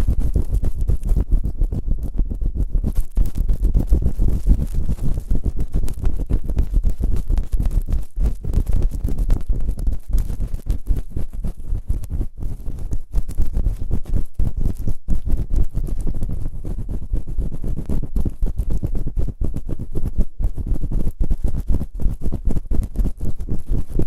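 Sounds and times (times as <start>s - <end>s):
rubbing on microphone: 0.0s - 24.0s.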